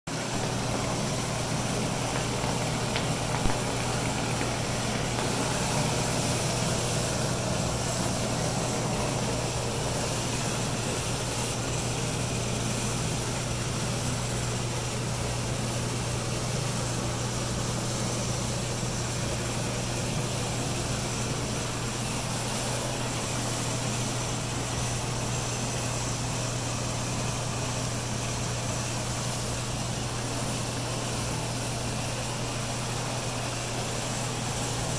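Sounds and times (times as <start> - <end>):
cleaning machine roar: 0.1 - 34.9.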